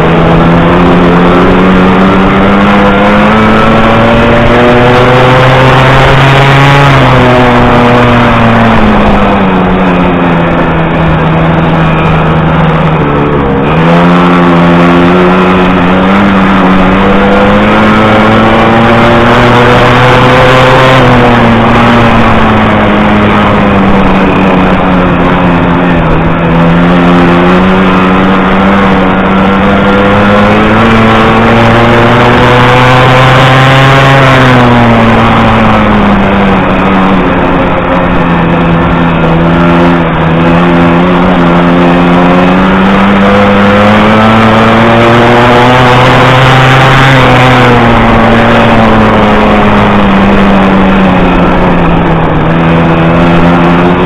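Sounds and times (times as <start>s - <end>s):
moped engine racing: 0.0s - 54.0s.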